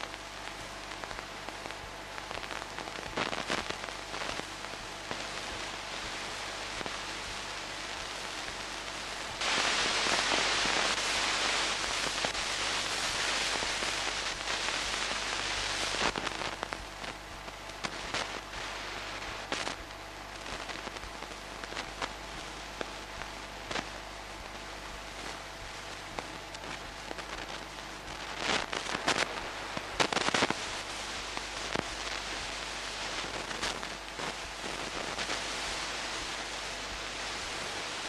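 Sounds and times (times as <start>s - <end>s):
film crackles and pops: 0.0s - 38.0s
low steady hum: 0.0s - 38.0s
steady hiss: 0.0s - 38.0s.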